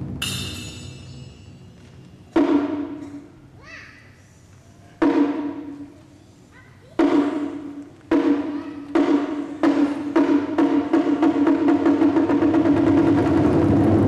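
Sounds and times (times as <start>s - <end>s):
taiko drums: 0.0s - 3.4s, 5.0s - 5.9s, 7.0s - 14.0s.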